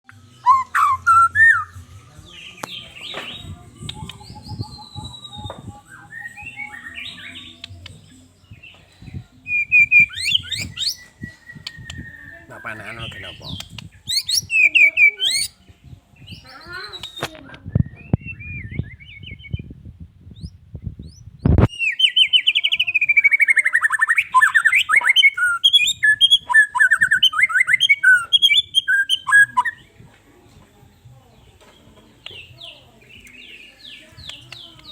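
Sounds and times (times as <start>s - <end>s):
songbird singing whistled phrases: 0.1s - 15.6s, 16.2s - 19.7s, 20.3s - 29.9s, 32.2s - 34.9s.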